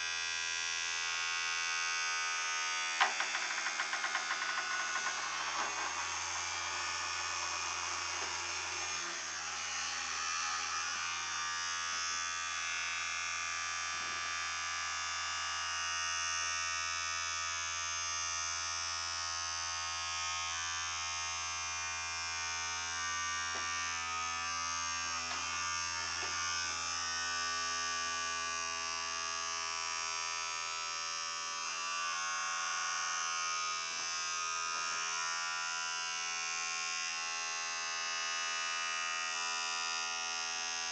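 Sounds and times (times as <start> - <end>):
motor buzzing in foil tray: 0.0 - 15.8, 17.4 - 40.9.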